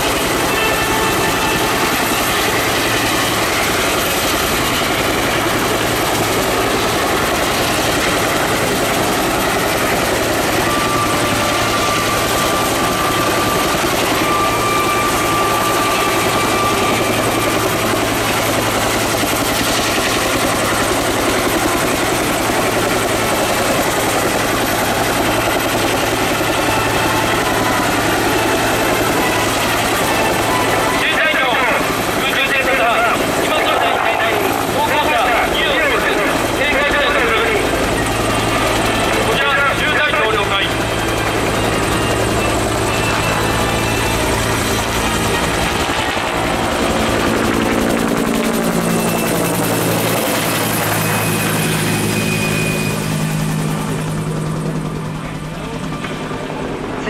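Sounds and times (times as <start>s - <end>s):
helicopter rotor beating: 0.0s - 57.0s
turbine engine droning: 0.0s - 57.0s.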